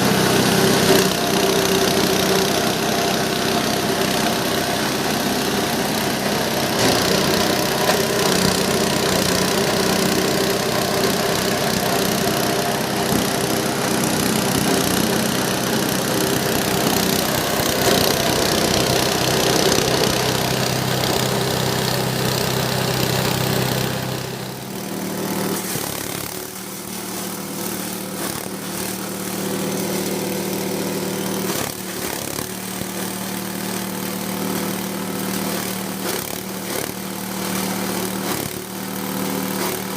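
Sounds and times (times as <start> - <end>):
grass chopper running: 0.0 - 39.9.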